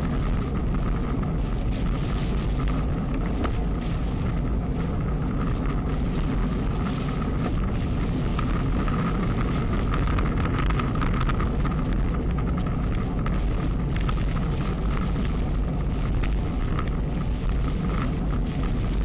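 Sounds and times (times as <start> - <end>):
road and tyre noise: 0.0 - 19.0
wind buffeting microphone: 0.0 - 19.0.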